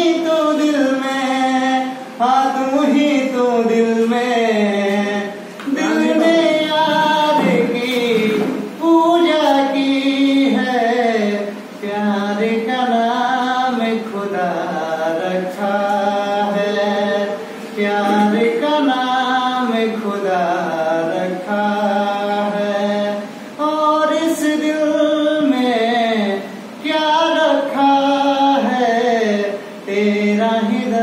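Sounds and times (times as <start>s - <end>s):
man singing unaccompanied: 0.0s - 31.0s.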